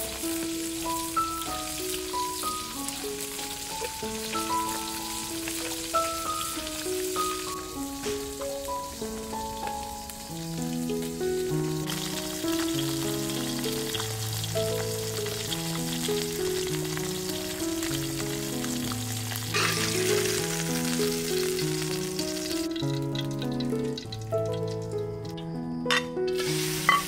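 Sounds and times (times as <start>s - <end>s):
food sizzling: 0.0s - 27.0s
slow background music: 0.0s - 27.0s.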